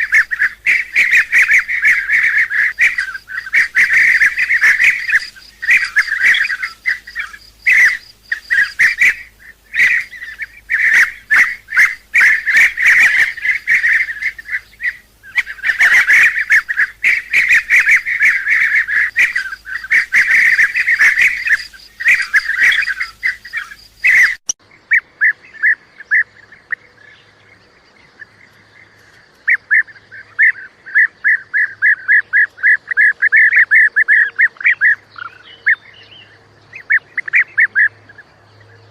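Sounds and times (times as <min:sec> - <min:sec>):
bee-eaters calling: 0:00.0 - 0:28.6, 0:29.4 - 0:38.9.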